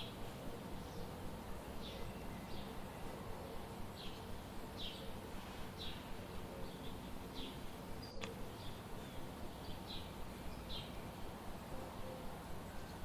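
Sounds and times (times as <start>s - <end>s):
bird chirping: 0.0s - 13.0s
low background hiss: 0.0s - 13.0s.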